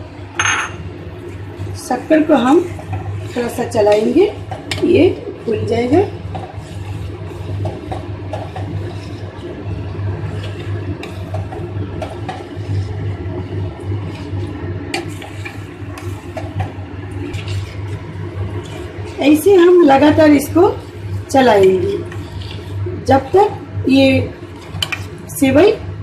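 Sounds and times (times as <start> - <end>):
spoon stirring in pot: 2.2 - 25.5.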